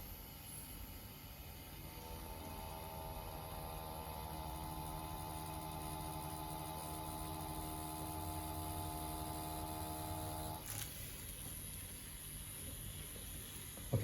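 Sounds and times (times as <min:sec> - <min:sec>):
tattoo pen electric hum: 0:00.0 - 0:14.0.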